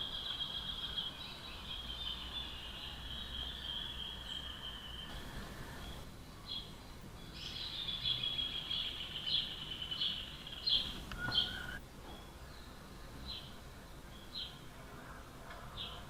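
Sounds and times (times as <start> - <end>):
bird trilling song: 0.0 - 14.8.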